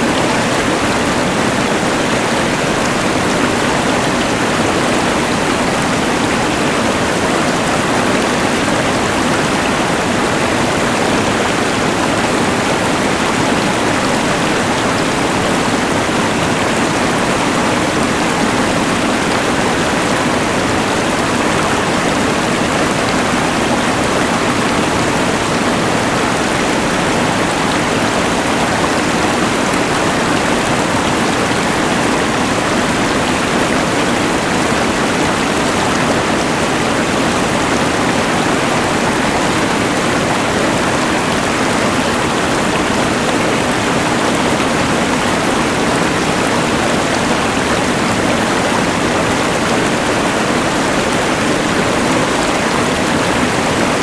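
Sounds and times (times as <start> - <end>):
rushing river: 0.0 - 54.0.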